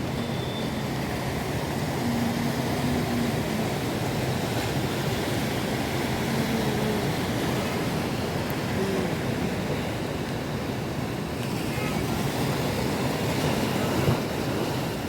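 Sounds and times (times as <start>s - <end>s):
strong wind: 0.0s - 15.0s.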